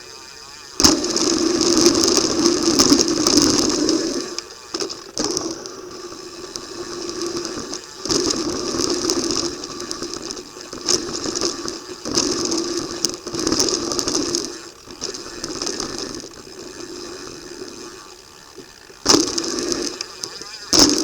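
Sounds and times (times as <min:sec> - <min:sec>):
bike chain rattling: 0:00.0 - 0:21.0
freewheel ratchet buzzing: 0:00.0 - 0:21.0.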